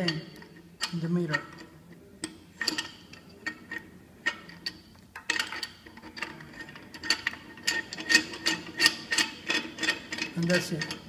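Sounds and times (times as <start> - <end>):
metallic clicks of brass fittings: 0.0 - 11.0.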